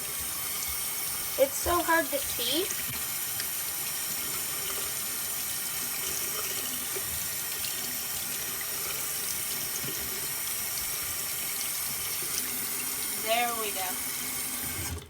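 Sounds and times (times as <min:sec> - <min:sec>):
tap water pouring into sink: 0:00.0 - 0:15.0.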